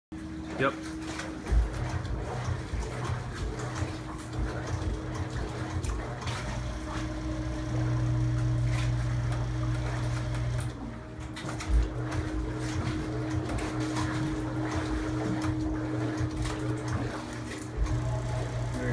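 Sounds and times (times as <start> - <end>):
lift motor clunk: 0.2 - 18.9
electric motor humming: 0.9 - 18.9.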